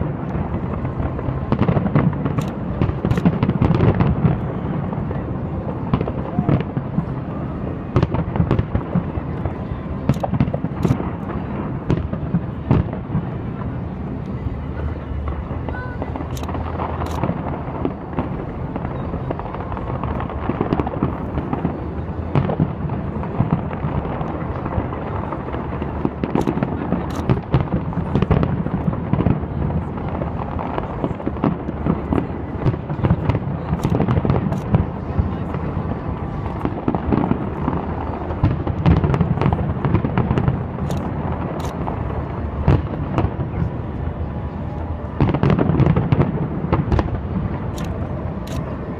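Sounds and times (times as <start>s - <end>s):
fireworks bangs and crackles: 0.0s - 48.9s
fireworks rumble: 0.0s - 48.9s.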